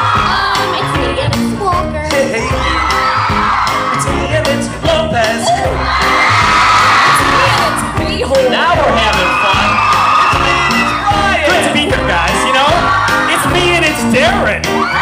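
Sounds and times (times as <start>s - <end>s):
audience cheering and screaming: 0.0s - 1.2s, 2.3s - 4.4s, 5.2s - 15.0s
live band music: 0.0s - 15.0s.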